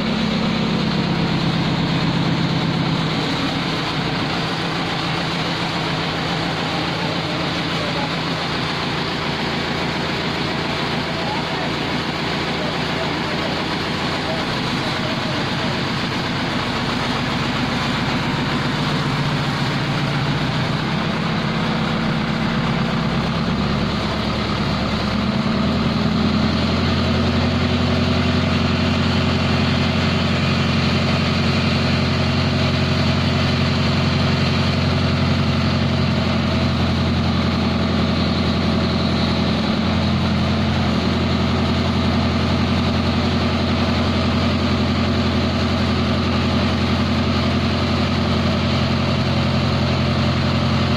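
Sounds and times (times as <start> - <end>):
crane diesel engine running: 0.0 - 50.9.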